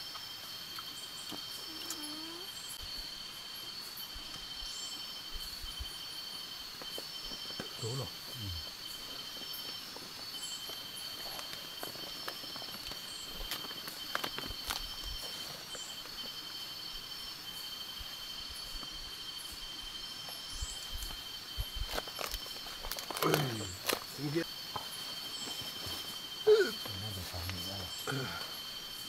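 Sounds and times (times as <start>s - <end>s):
high-pitched insect chorus: 0.0s - 29.0s.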